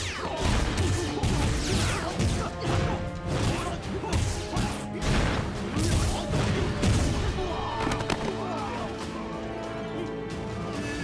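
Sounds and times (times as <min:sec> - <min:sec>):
dramatic background music: 0:00.0 - 0:11.0.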